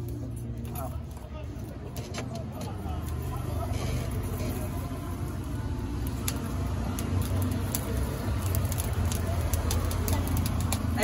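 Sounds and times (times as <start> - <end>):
charcoal crackling and popping: 0.0 - 11.0.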